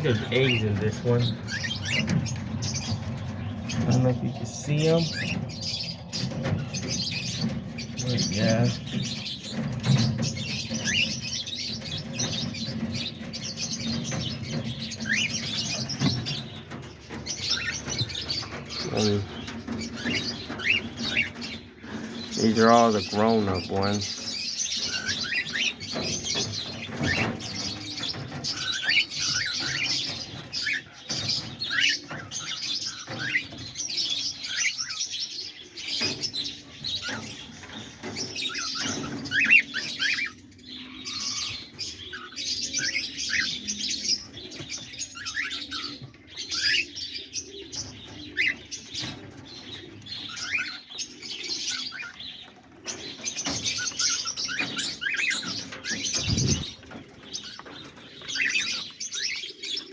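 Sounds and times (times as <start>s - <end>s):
cockatiels chirping: 0.0s - 59.9s.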